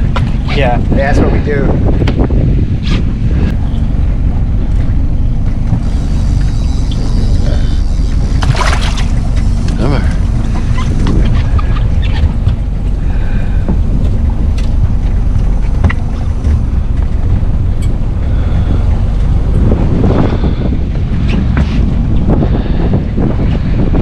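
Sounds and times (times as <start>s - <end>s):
low rumble of boat: 0.0s - 24.0s
waves: 0.0s - 24.0s
wind buffeting the microphone: 0.0s - 24.0s.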